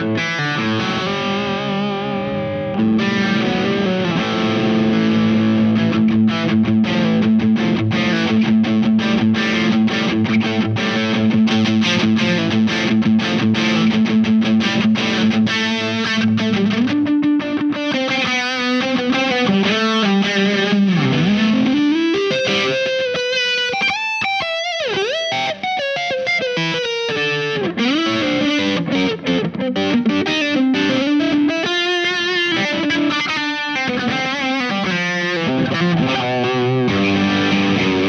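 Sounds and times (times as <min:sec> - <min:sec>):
overdriven electric guitar: 0:00.0 - 0:38.0.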